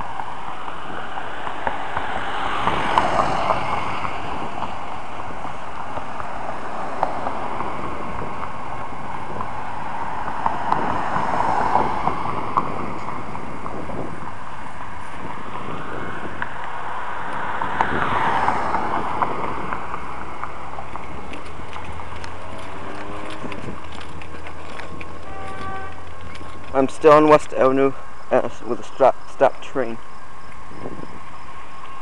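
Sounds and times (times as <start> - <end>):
wind on microphone: 0.0 - 26.9, 30.4 - 32.0
vehicles passing: 0.0 - 32.0.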